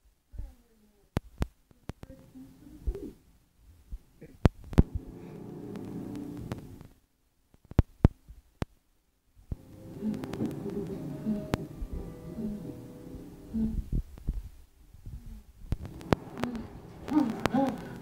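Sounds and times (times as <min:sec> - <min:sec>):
muffled film soundtrack from tv: 0:00.0 - 0:18.0.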